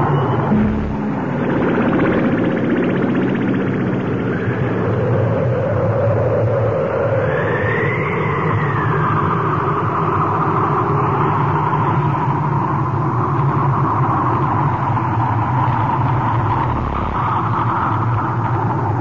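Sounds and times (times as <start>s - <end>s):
wind whistling tone: 0.0s - 12.4s, 13.0s - 19.0s
blizzard wind howling: 0.0s - 19.0s.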